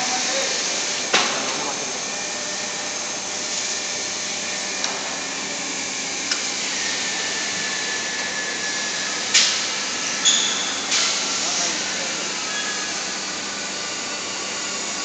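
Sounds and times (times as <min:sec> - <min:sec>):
furnace hum and hiss: 0:00.0 - 0:15.0.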